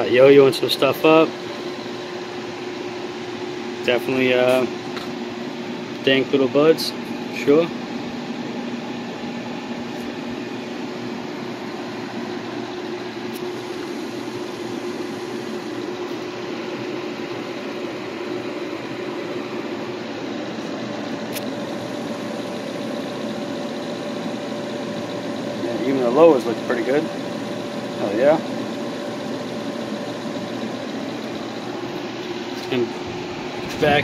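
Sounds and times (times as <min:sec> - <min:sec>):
ventilation fans whirring: 0:00.0 - 0:34.0.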